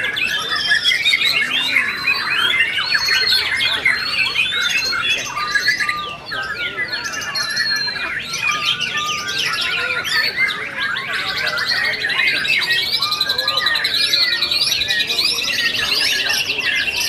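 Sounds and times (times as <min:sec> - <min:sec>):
birds whistling and chirping: 0:00.0 - 0:17.0
fast bird trill: 0:00.0 - 0:17.0.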